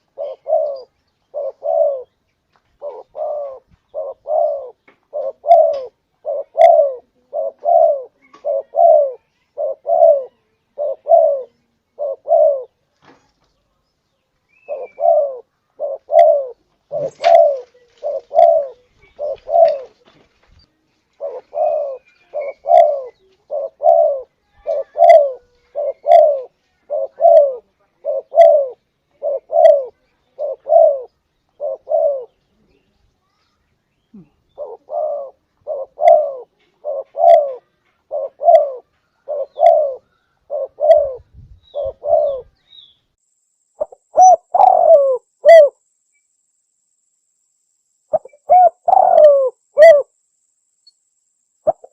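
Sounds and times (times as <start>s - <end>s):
dove cooing: 0.0s - 2.2s, 2.8s - 12.8s, 14.6s - 20.2s, 21.1s - 32.8s, 34.1s - 42.6s, 43.8s - 45.8s, 48.1s - 50.2s, 51.6s - 51.9s
faint high chirps: 0.0s - 51.9s.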